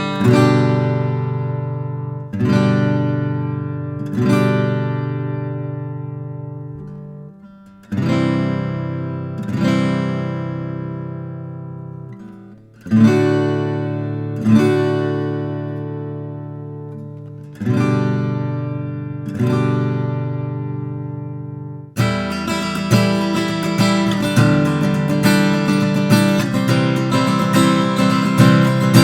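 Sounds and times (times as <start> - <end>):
acoustic guitar chords strummed: 0.0 - 29.0.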